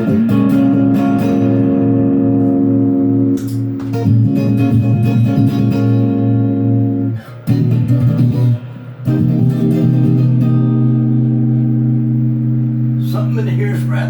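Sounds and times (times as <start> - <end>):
overdriven electric guitar notes: 0.0 - 14.0.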